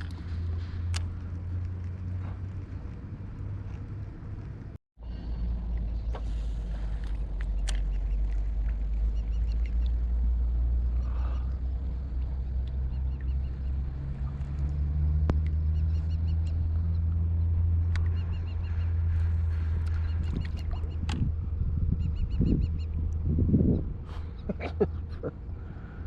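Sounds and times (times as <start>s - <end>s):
distant engine rumble: 0.0s - 26.0s.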